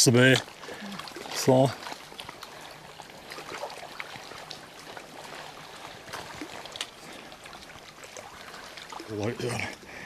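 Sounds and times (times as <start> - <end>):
small waves lapping at shore: 0.0 - 10.0.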